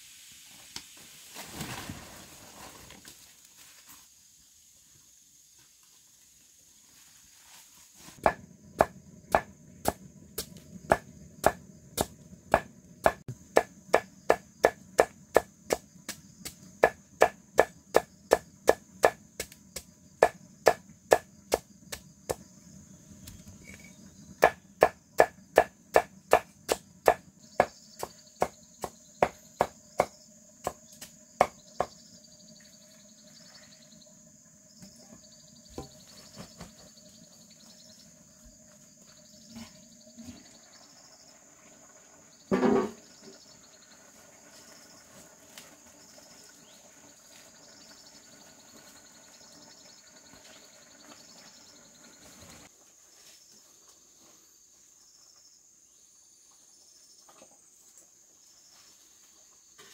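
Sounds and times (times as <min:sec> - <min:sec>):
crickets chirring: 0:01.2 - 0:59.9.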